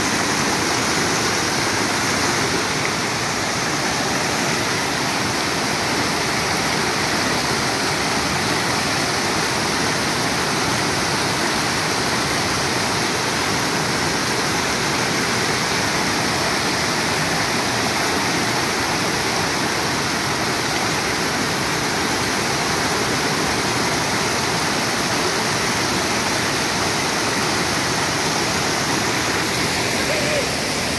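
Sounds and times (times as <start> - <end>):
stream rushing over boulders: 0.0 - 30.9.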